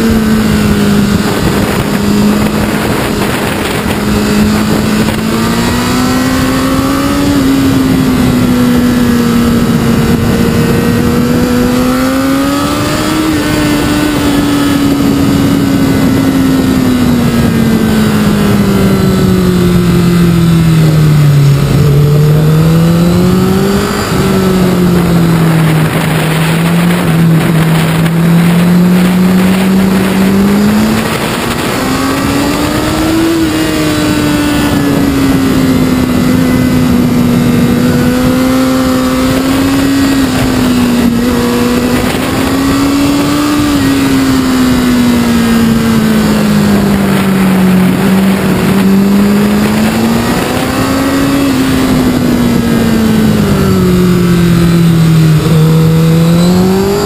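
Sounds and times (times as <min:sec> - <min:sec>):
motorcycle engine: 0:00.0 - 0:57.0
wind and road noise: 0:00.0 - 0:57.0.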